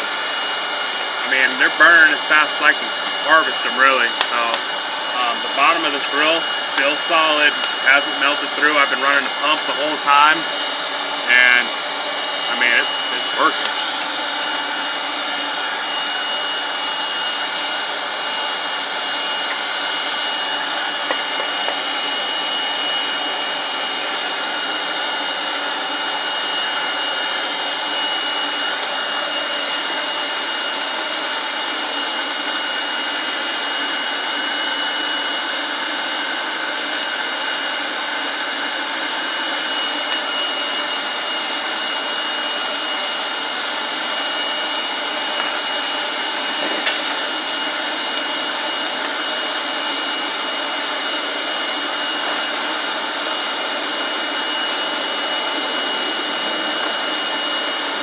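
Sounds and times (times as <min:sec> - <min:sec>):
thin high whine: 0:00.0 - 0:58.0.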